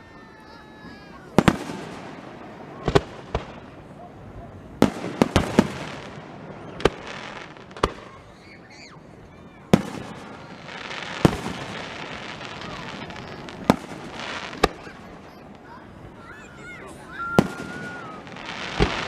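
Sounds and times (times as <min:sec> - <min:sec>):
fireworks crackling: 0:00.0 - 0:19.0
fireworks booming: 0:00.5 - 0:19.0.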